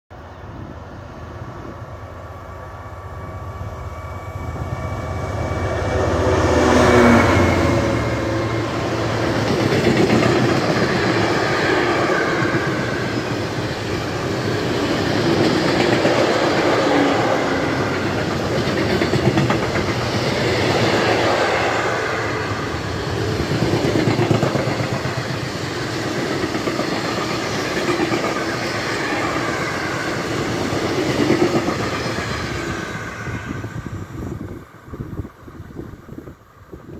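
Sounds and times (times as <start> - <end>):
diesel locomotive engine drone: 0.1 - 36.9
train wheels rumbling: 0.6 - 36.4.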